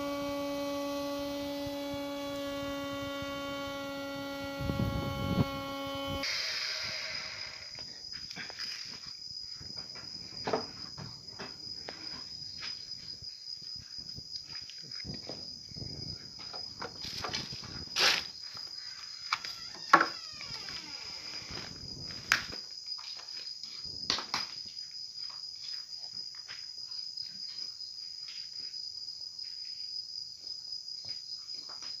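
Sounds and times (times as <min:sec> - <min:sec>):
high insect trill: 0:00.0 - 0:32.0.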